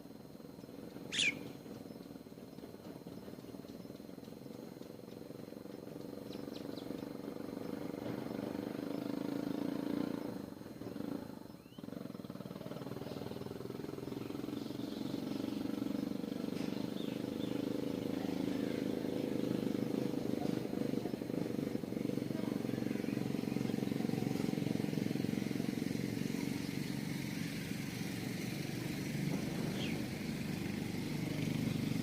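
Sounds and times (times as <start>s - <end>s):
small birds chirping: 0.0s - 32.0s
vehicle engine running: 0.0s - 32.0s.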